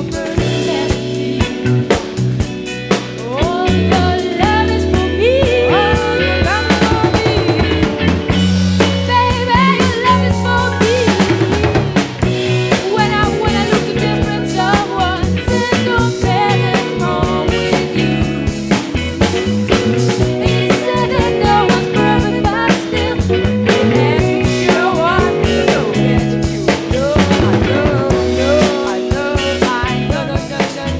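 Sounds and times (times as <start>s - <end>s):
drum kit beat: 0.0s - 30.9s
rock band playing live: 0.0s - 30.9s.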